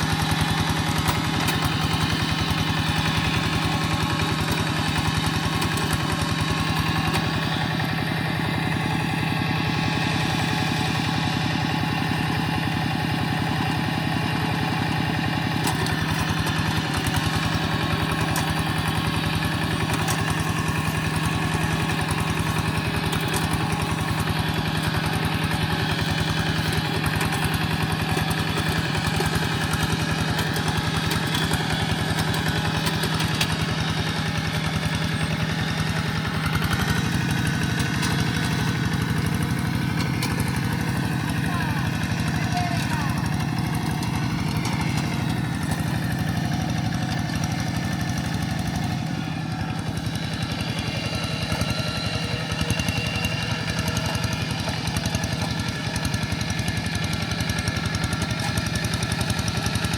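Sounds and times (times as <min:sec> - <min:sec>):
walking tractor engine running: 0:00.0 - 0:59.9.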